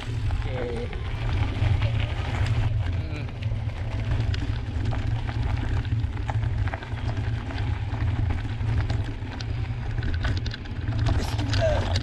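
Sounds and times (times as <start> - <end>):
bike clicks and rattles: 0.0 - 12.0
tyres crunching gravel: 0.0 - 12.0.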